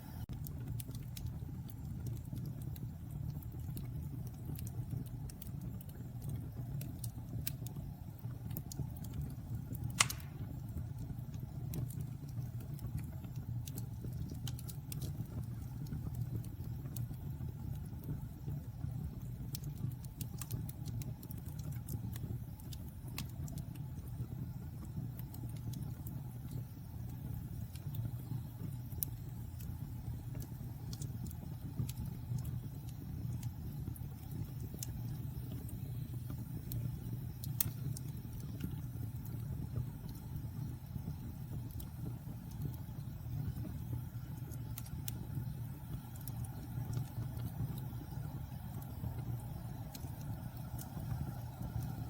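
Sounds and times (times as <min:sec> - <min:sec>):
fire crackling and popping: 0:00.0 - 0:52.0
fire rumbling: 0:00.0 - 0:52.0.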